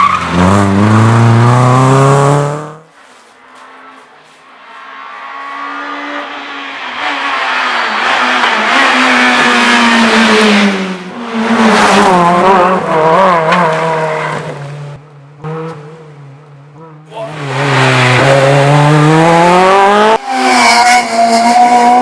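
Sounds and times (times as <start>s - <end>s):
rally car engine passing: 0.0s - 22.0s.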